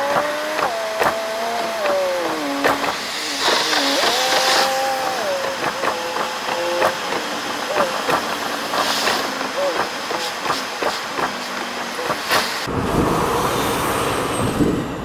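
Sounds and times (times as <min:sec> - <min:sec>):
sped up car engine whirring: 0:00.0 - 0:15.0.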